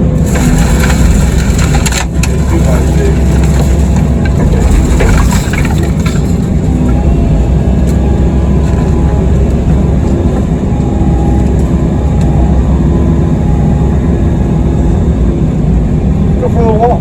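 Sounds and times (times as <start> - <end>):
excavator diesel engine running: 0.0 - 17.0
faint steady whine: 0.0 - 17.0.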